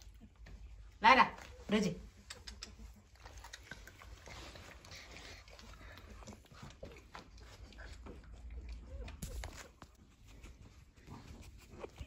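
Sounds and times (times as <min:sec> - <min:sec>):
puppy snuffling: 0:01.4 - 0:12.0.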